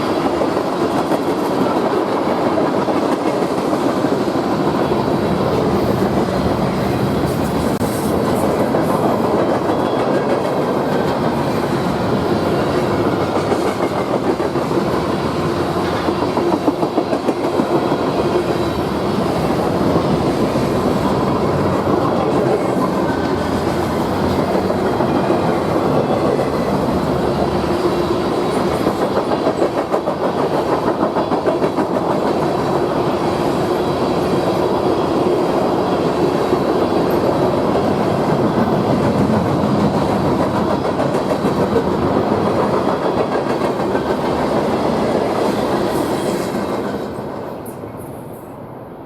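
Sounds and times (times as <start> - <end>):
train wheels clattering on rails: 0.0 - 48.1.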